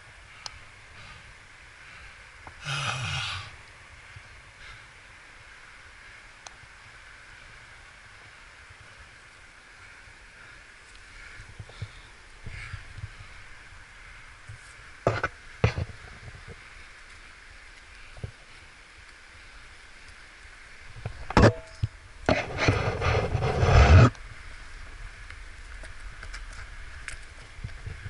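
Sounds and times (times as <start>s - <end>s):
rough rustling noise: 5.4s - 28.0s.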